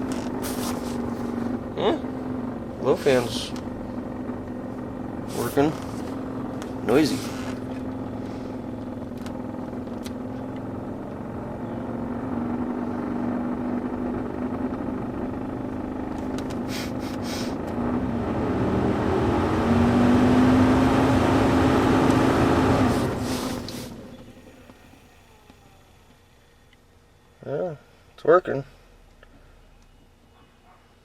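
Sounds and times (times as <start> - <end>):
heater blower motor humming: 0.0 - 30.3.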